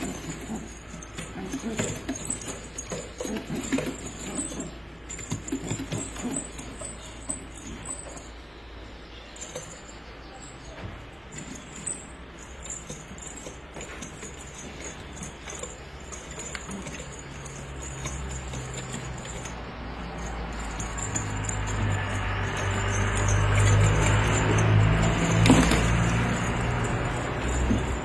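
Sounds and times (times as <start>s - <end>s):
pigeons rustling and pattering: 0.0s - 28.0s.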